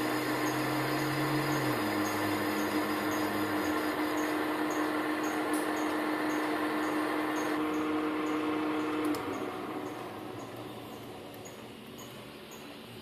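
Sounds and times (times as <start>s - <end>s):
electric motor humming: 0.0s - 12.4s.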